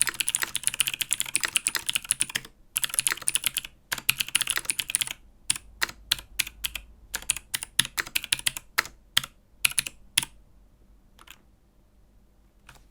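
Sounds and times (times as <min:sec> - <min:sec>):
clicky keyboard keystrokes: 0:00.0 - 0:10.4, 0:11.2 - 0:11.4.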